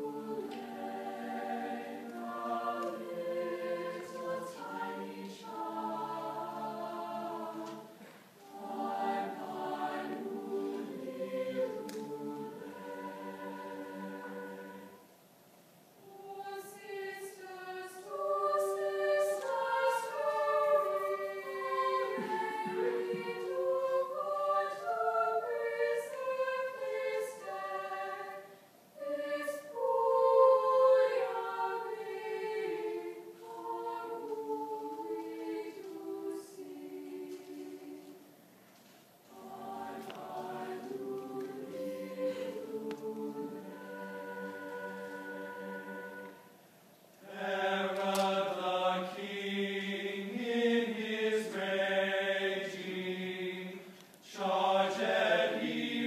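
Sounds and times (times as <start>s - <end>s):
choir singing in sustained chords: 0.0s - 15.3s, 16.0s - 38.5s, 39.2s - 56.0s.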